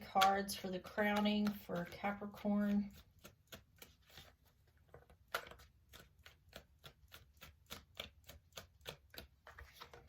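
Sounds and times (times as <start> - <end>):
cards being shuffled: 0.1 - 10.0.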